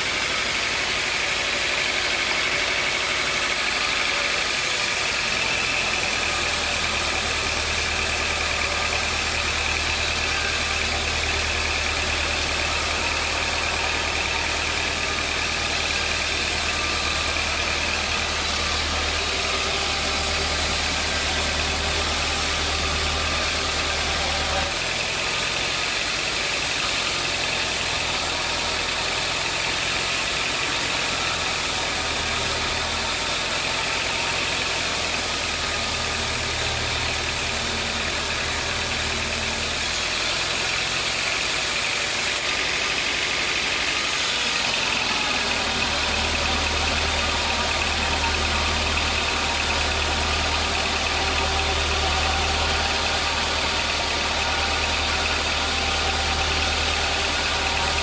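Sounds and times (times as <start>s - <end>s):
sawmill machinery drone: 0.0s - 58.0s.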